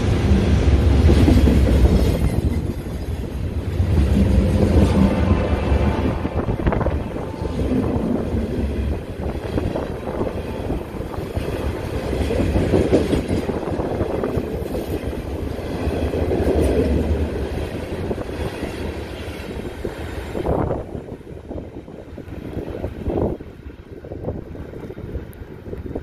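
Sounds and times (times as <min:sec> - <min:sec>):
freight train rolling on rails: 0:00.0 - 0:26.0.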